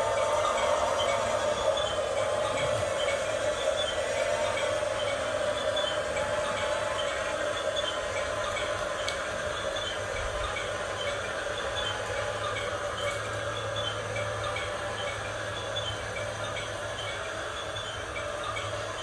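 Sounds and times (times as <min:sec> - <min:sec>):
faint repeating ticks: 0:00.0 - 0:19.0
small electric motors whining: 0:00.0 - 0:19.0.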